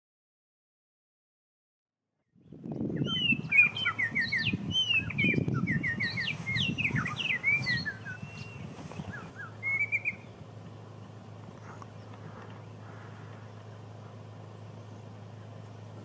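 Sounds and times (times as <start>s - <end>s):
songbirds singing: 2.3s - 16.0s.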